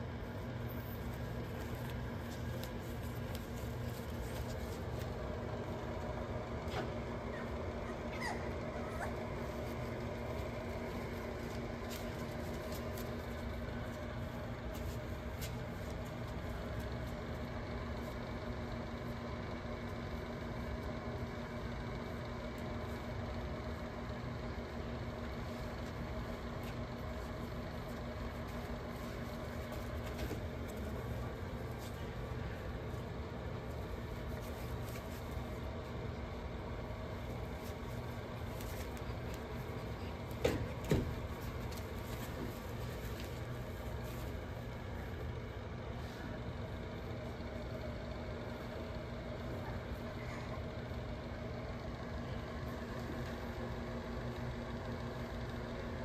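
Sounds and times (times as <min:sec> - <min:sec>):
fan heater hum and whoosh: 0:00.0 - 0:56.0.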